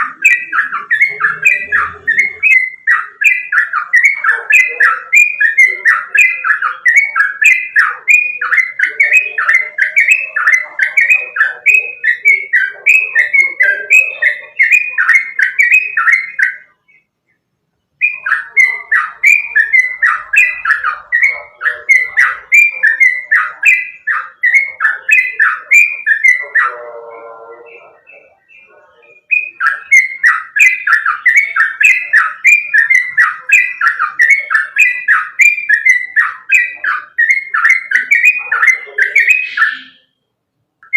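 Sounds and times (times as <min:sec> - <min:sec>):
bird song of fast chirping notes: 0:00.0 - 0:40.9
low buzzy bird call: 0:00.0 - 0:40.9.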